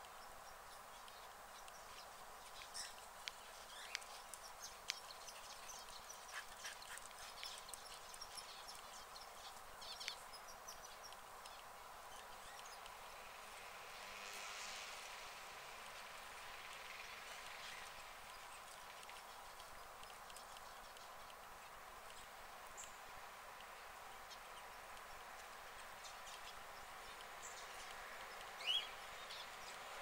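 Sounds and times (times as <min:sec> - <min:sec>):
soft rush of noise: 0:00.0 - 0:30.0
steady outdoor hiss: 0:00.0 - 0:30.0.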